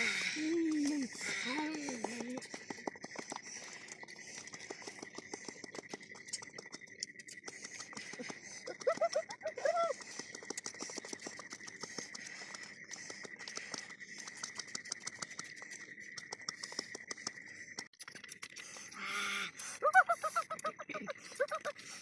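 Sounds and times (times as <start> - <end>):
night insects chirring: 0.0 - 22.0.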